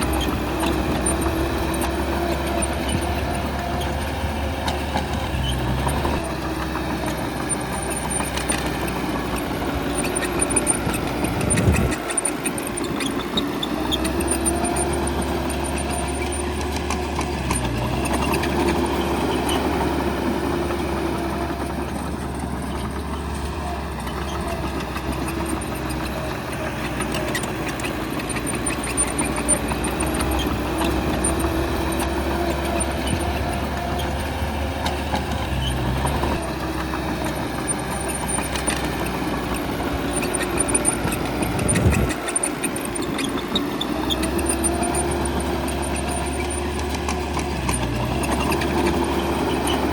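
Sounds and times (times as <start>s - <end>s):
bulldozer diesel engine working: 0.0s - 49.9s.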